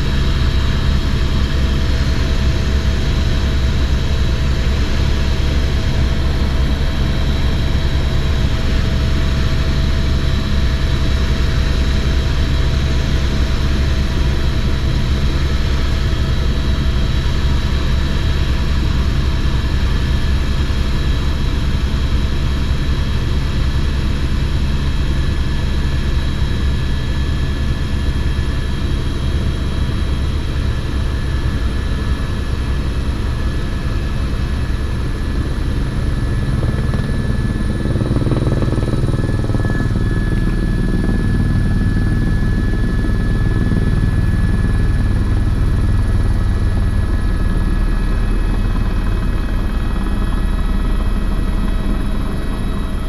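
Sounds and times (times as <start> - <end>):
helicopter rotor drone: 0.0 - 53.0
high turbine whine: 0.0 - 53.0.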